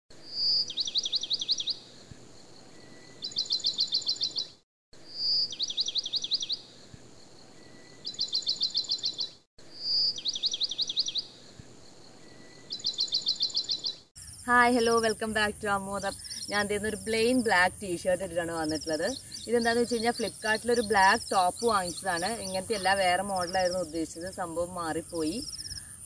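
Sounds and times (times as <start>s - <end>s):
bird singing: 0.3s - 26.0s.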